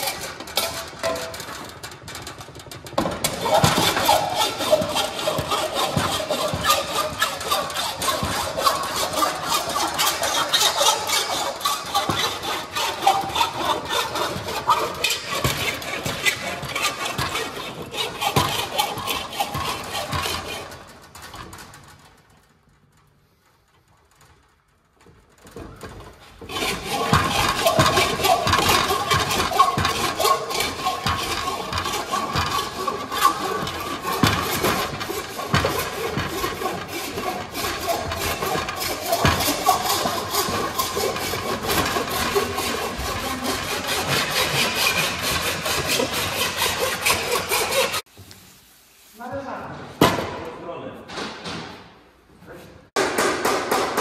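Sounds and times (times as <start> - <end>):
hand tool cutting aluminium sheet: 0.0 - 21.8, 25.4 - 48.1.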